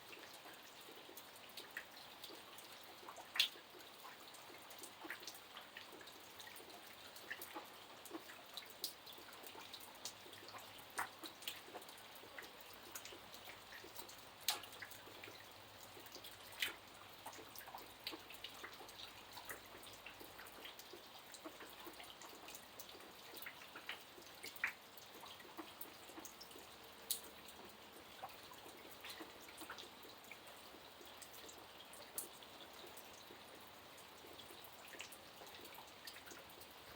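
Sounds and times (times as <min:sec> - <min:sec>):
rain falling: 0:00.0 - 0:36.9
raindrops striking close by: 0:00.0 - 0:36.9.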